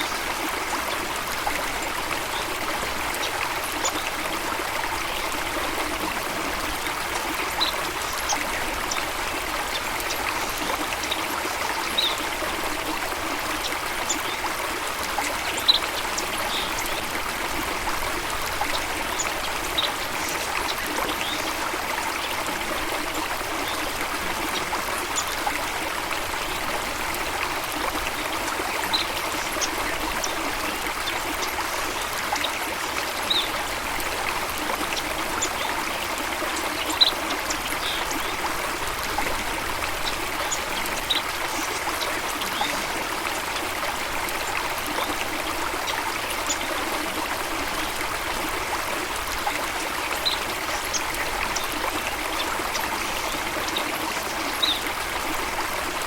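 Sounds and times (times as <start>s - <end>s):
stream water babbling: 0.0s - 56.0s.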